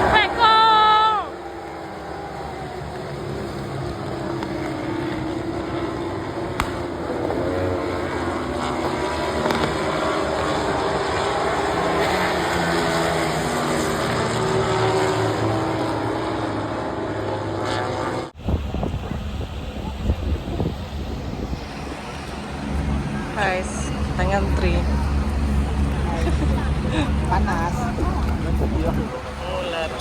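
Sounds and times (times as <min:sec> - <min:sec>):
vehicle engines running: 0:00.0 - 0:30.0.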